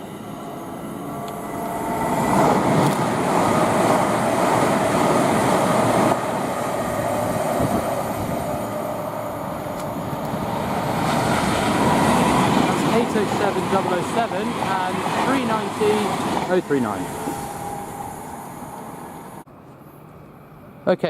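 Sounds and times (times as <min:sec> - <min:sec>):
train wheel and rail rumble: 0:00.0 - 0:21.0.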